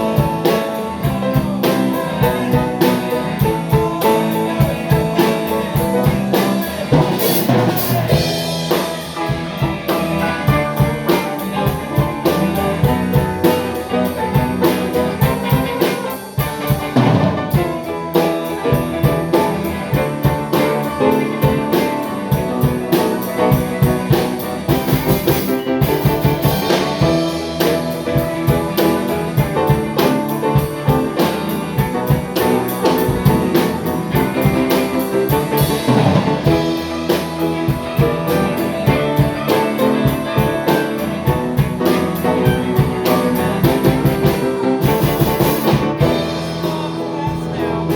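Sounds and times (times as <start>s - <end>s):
band playing drums and guitar: 0.0s - 47.9s.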